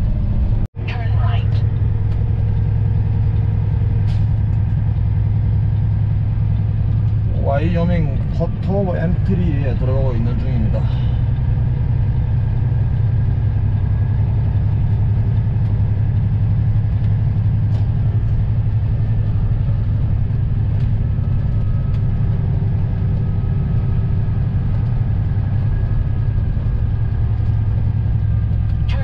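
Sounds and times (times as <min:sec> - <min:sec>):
diesel truck engine droning: 0:00.0 - 0:29.0.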